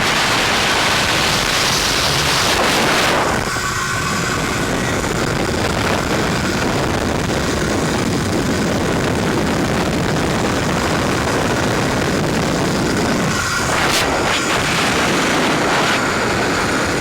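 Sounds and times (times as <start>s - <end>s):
motorcycle engine and road noise: 0.0s - 17.0s
wind rushing over microphone: 0.0s - 17.0s.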